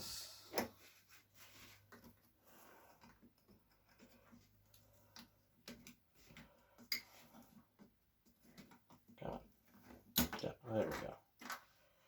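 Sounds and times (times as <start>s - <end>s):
plastic parts clicking and scraping: 1.8s - 11.9s.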